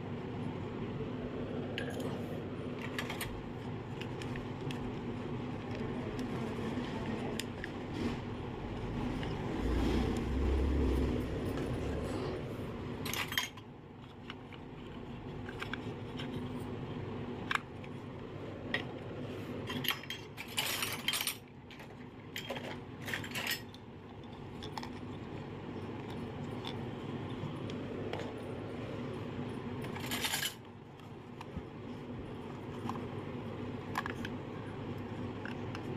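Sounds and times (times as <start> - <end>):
low background noise: 0.0 - 35.9.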